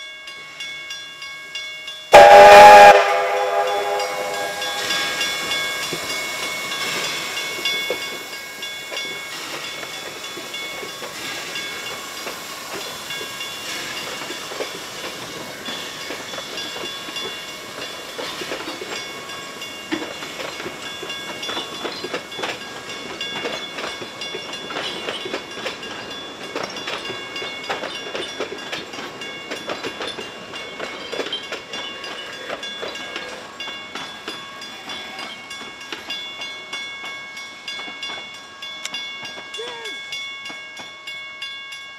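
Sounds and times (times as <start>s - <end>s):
crossing warning bell ringing: 0.0s - 41.9s
train wheels clicking on rail joints: 0.3s - 41.9s.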